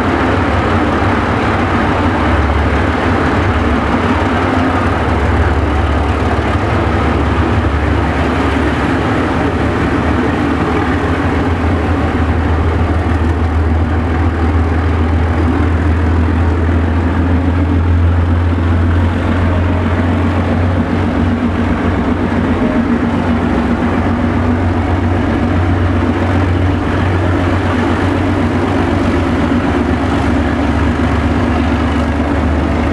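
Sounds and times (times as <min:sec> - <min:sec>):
diesel locomotive engine drone: 0:00.0 - 0:32.9
moving train rumble: 0:00.0 - 0:32.9.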